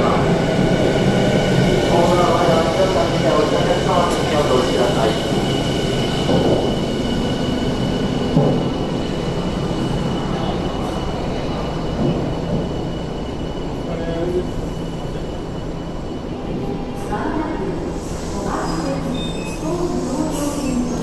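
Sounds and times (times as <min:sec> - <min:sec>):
electric train rumbling to a stop: 0:00.0 - 0:21.0.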